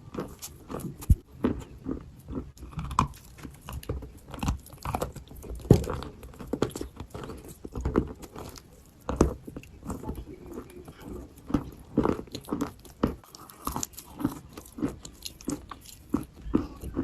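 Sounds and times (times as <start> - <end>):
crunching and chewing clay: 0.0 - 17.0.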